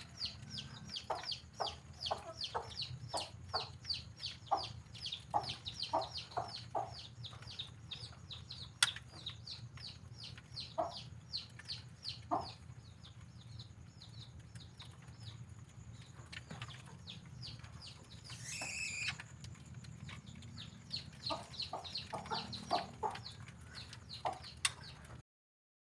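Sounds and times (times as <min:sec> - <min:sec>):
songbird singing: 0:00.0 - 0:25.2.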